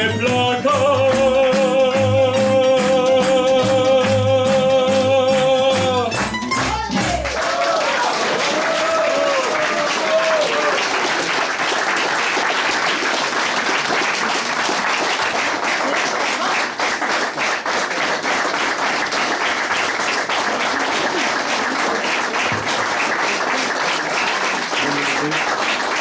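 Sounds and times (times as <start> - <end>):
audience applauding: 3.6 - 26.0.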